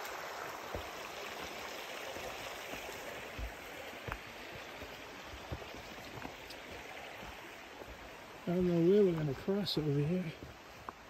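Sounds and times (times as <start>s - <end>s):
stream over stones: 0.0s - 11.0s.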